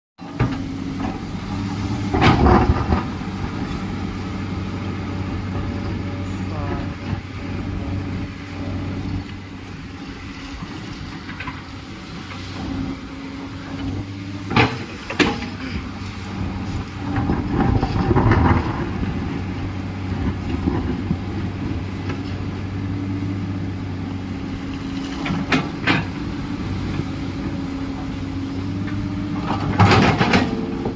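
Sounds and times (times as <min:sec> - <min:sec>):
excavator diesel engine running: 0:00.2 - 0:30.9.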